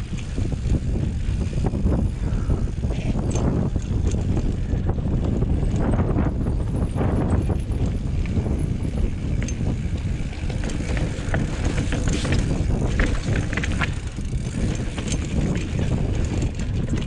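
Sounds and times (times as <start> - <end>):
bike clicking and rattling: 0.0 - 17.0
bike tyres rumbling on rock: 0.0 - 17.0.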